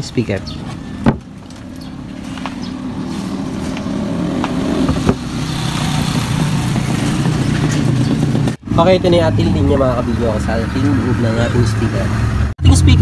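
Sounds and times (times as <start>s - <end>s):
engine running: 0.7s - 13.0s.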